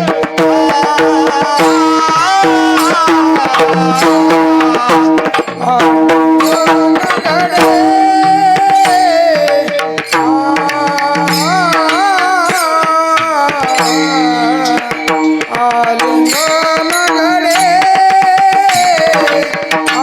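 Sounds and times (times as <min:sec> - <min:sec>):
hand drum rhythm: 0:00.0 - 0:20.0
person singing ornamented melody: 0:00.0 - 0:20.0
sustained accompanying tones: 0:00.0 - 0:20.0.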